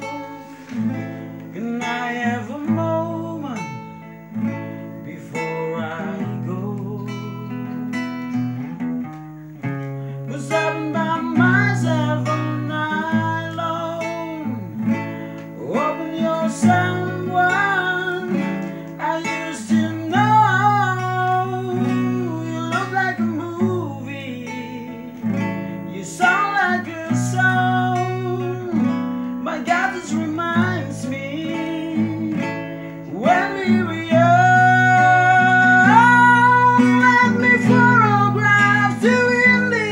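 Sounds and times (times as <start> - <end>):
person singing: 0.0 - 4.2, 5.0 - 8.2, 10.0 - 39.9
strummed acoustic guitar: 0.0 - 39.9.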